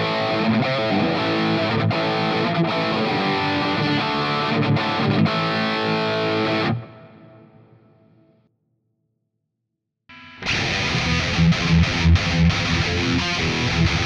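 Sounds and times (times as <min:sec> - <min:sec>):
distorted electric guitar: 0:00.0 - 0:07.8, 0:10.1 - 0:14.0.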